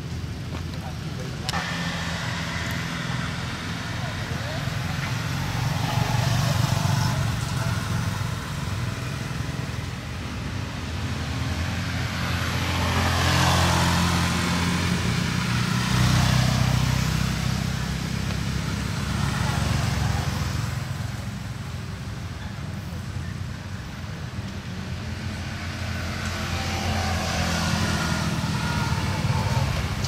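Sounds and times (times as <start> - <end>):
vehicle engines droning: 0.0 - 30.0
vehicle passing: 1.2 - 22.2, 24.8 - 30.0.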